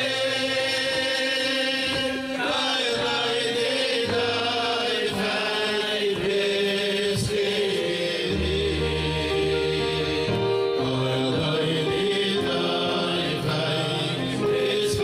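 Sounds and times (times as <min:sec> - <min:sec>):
keyboard and bass accompaniment: 0:00.0 - 0:15.0
men singing together: 0:00.0 - 0:15.0.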